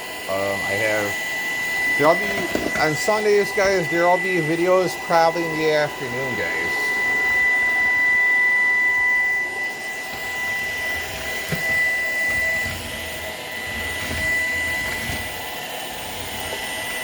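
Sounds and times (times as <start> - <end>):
vacuum cleaner whine: 0.0 - 17.0.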